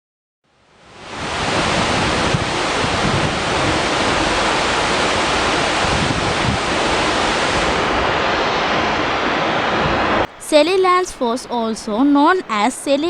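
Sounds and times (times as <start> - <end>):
waterfall rushing: 0.8 - 13.0.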